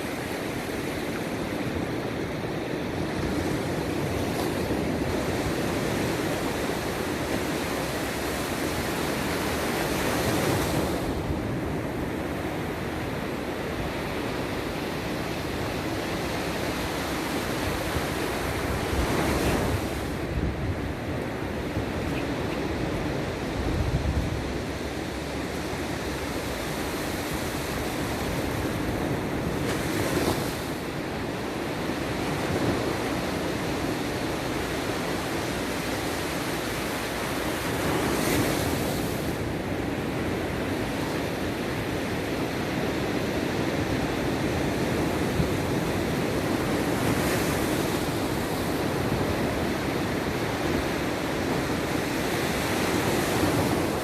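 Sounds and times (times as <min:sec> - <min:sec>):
waves breaking: 0:00.0 - 0:54.0
waves washing: 0:00.0 - 0:54.0.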